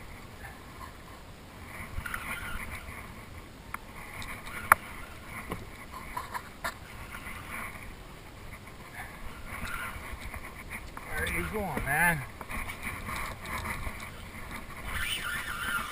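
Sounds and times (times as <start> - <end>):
water noise: 0.0 - 15.9
wind noise: 0.0 - 15.9.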